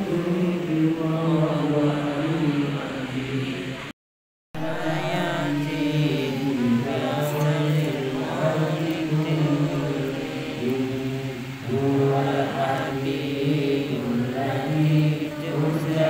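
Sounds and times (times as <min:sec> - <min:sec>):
congregation chanting prayers: 0:00.0 - 0:03.9, 0:04.6 - 0:16.0.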